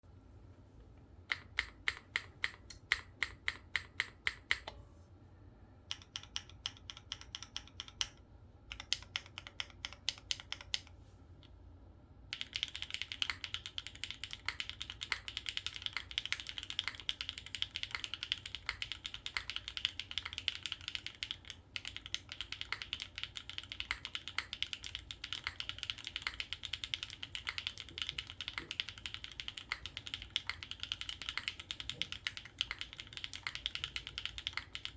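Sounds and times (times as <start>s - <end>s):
mechanical keyboard typing: 1.3s - 4.7s, 5.9s - 10.9s, 12.3s - 34.9s.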